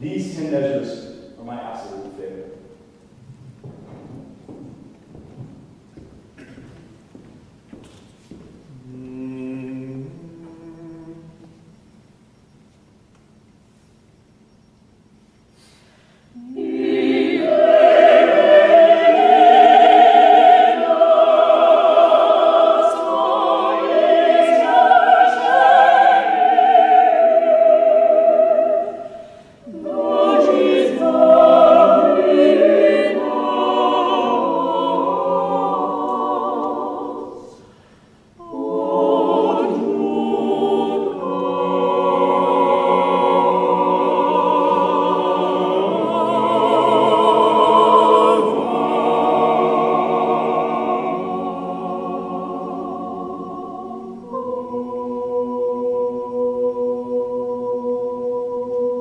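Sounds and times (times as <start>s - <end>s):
choir singing sacred chords: 8.7s - 12.5s, 14.2s - 59.0s.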